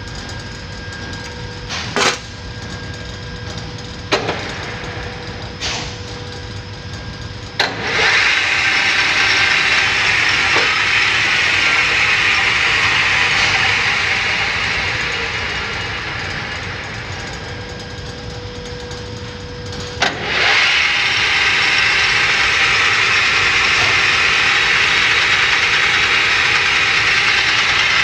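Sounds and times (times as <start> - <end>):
lathe spindle whirring: 0.0 - 28.0
lathe control clunks: 3.5 - 27.0.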